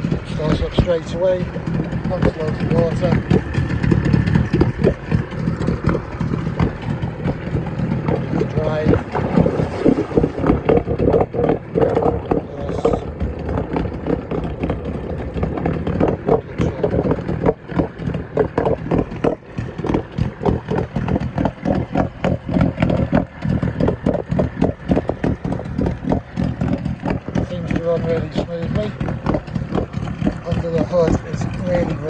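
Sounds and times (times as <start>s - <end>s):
outboard engine running: 0.0s - 32.0s.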